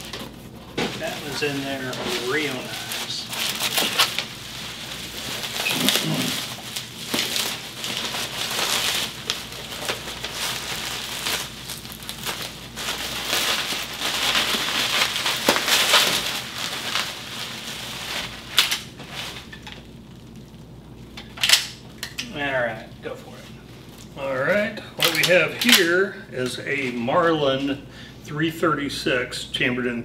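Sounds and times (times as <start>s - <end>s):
plastic wrapping crinkling and tearing: 0.0s - 22.5s, 23.3s - 27.5s.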